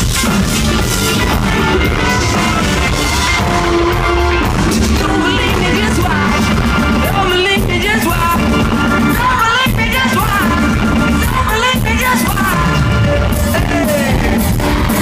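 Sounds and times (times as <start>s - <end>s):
live pop-rock band playing: 0.0s - 15.0s
voices singing or shouting: 0.6s - 15.0s.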